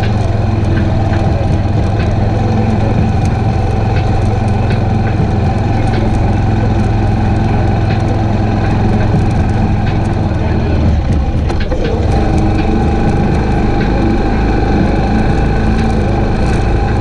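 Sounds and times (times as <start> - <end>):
atv engine running: 0.0 - 17.0
sharp ticks: 0.0 - 17.0.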